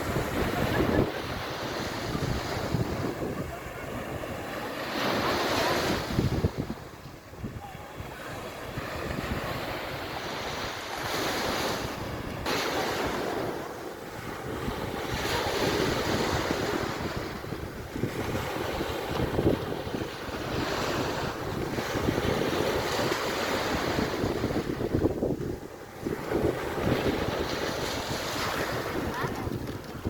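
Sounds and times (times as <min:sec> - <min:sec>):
sea waves washing onto beach: 0:00.0 - 0:30.0
wind buffeting microphone: 0:00.0 - 0:30.0.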